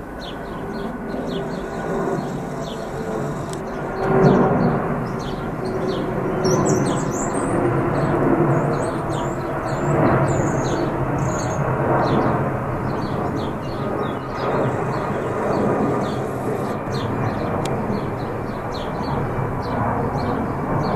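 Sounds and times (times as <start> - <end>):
jet engines rumbling overhead: 0.0 - 20.9
small birds chirping: 0.2 - 20.4.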